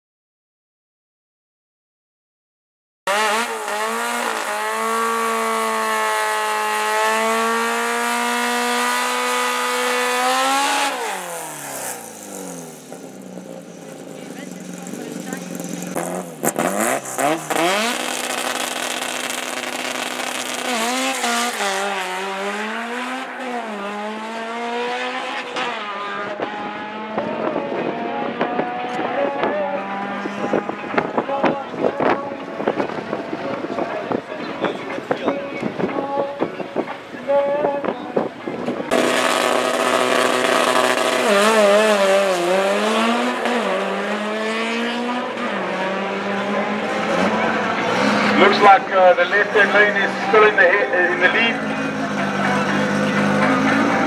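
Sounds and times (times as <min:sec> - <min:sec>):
racing car engine revving: 0:03.1 - 0:37.1, 0:37.8 - 0:54.0.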